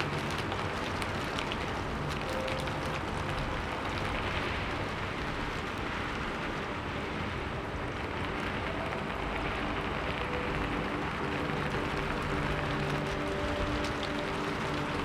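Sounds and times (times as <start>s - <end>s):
faint background music: 0.0s - 15.0s
steady rain falling: 0.0s - 15.0s.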